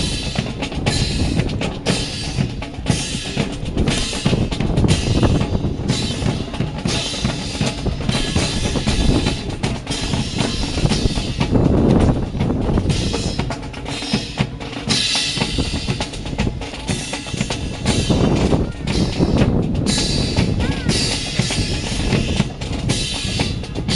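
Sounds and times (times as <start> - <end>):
drum-led music: 0.0 - 23.9.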